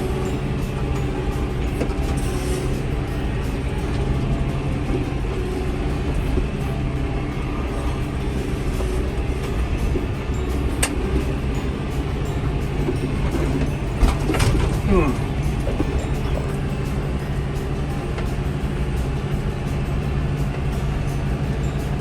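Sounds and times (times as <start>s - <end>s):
disc mower cutting hay: 0.0s - 22.0s
tractor engine running: 0.0s - 22.0s.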